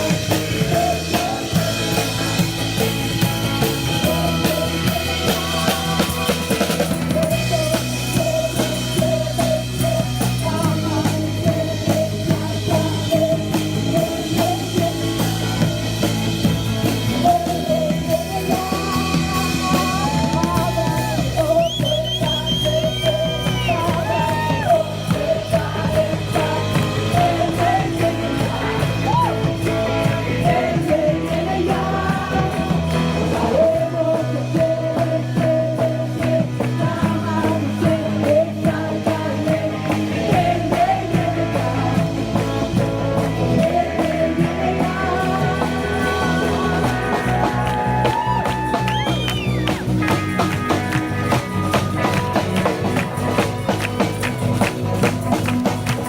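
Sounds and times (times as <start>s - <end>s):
rock music: 0.0s - 56.0s.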